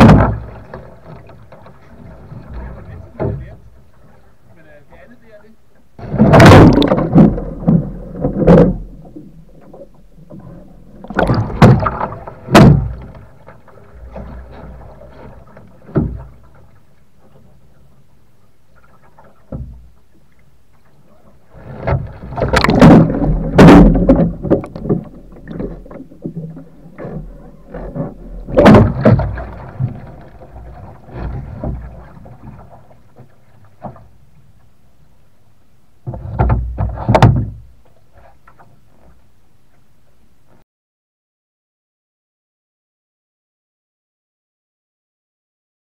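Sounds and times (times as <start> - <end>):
water splashing and churning: 0.0 - 39.4.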